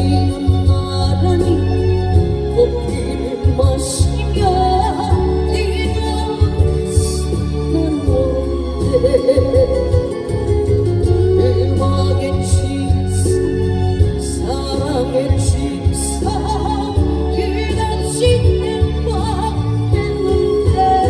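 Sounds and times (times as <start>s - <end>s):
band accompaniment: 0.0s - 21.0s
steady bass: 0.0s - 21.0s
woman singing slow melody: 0.0s - 21.0s.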